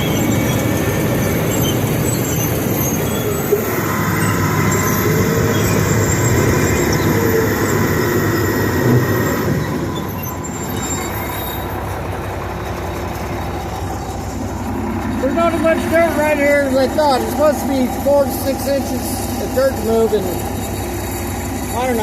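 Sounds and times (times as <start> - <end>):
bulldozer engine running: 0.0 - 22.0
steel tracks clanking and squealing: 0.0 - 22.0.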